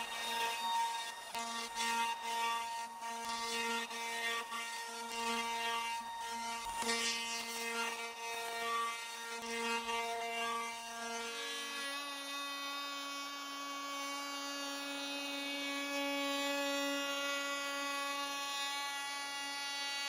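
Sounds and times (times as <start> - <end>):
electric router whining: 0.0 - 20.0.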